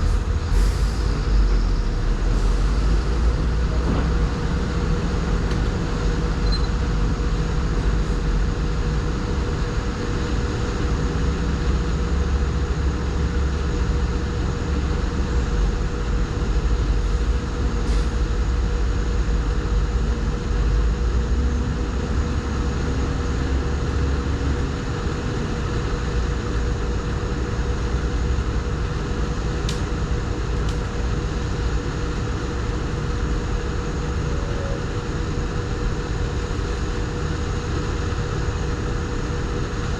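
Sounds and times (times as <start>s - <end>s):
dozer diesel engine rumbling: 0.0s - 39.9s.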